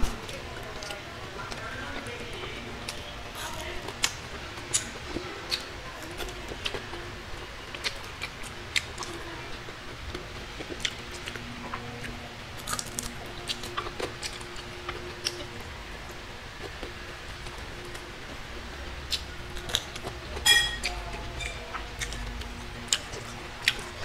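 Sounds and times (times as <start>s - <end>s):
chewing with wet mouth smacks: 0.6s - 7.0s, 7.6s - 15.6s, 19.0s - 24.0s.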